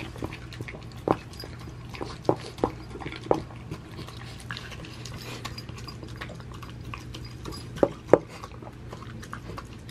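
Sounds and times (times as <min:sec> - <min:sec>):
dog eating wet smacking: 0:00.0 - 0:09.9.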